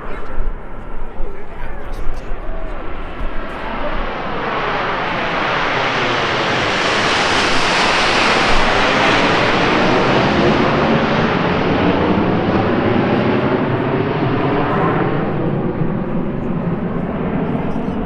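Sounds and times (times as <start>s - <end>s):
jets passing low overhead: 0.0s - 18.0s.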